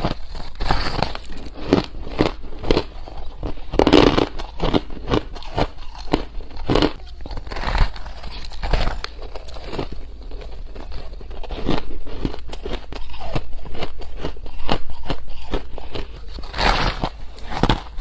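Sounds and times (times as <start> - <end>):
ice being chewed crunching: 0.0 - 18.0.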